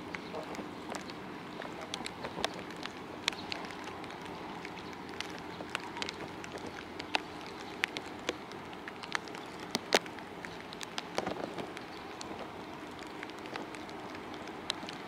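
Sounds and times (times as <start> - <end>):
rain falling: 0.0 - 15.0
raindrops tapping near microphone: 0.0 - 15.0.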